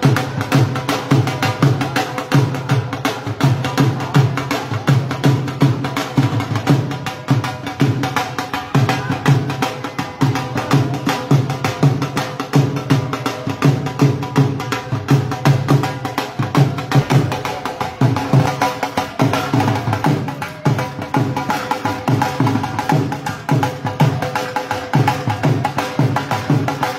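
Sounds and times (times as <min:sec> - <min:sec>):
fast steady drumming: 0:00.0 - 0:26.9.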